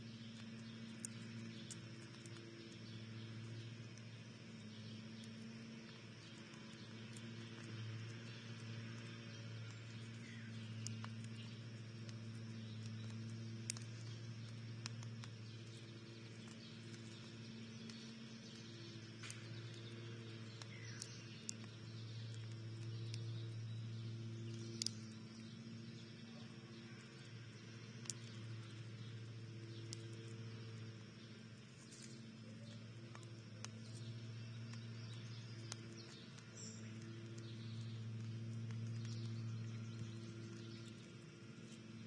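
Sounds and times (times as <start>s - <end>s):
steady low hum: 0.0s - 42.0s
animals clicking and tapping at feeder: 0.1s - 42.0s
faint bird chirps: 0.1s - 42.0s.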